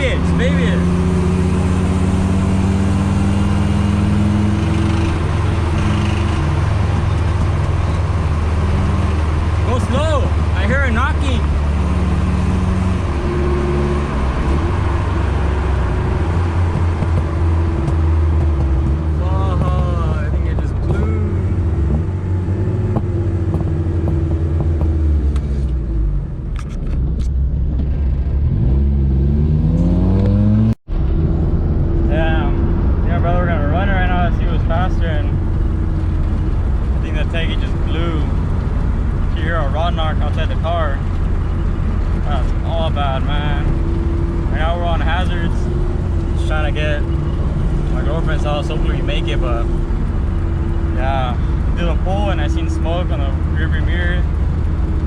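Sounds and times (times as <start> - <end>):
car engine running from inside cabin: 0.0 - 55.0.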